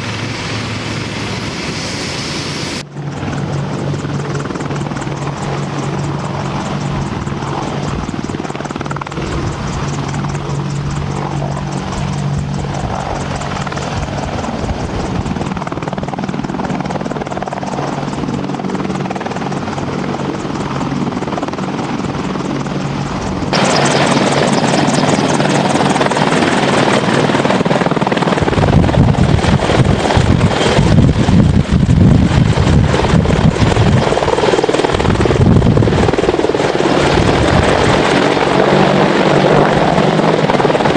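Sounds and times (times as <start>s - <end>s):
helicopter hovering overhead: 0.0s - 40.9s
helicopter rotors and engines: 0.0s - 40.9s.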